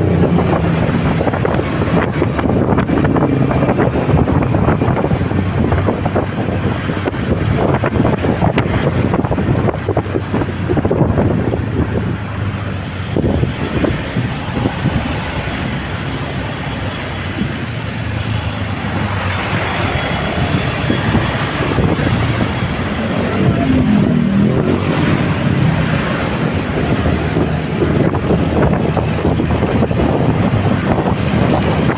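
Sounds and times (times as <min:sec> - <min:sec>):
road traffic noise: 0:00.0 - 0:31.9.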